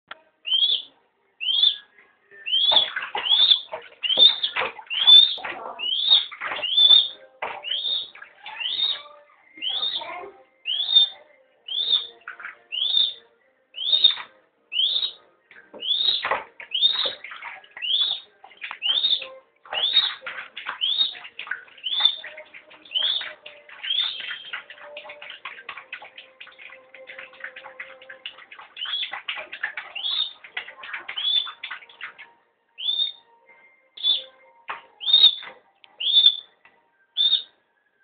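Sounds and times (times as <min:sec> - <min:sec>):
bird chirping: 0:00.4 - 0:36.6, 0:37.2 - 0:37.6.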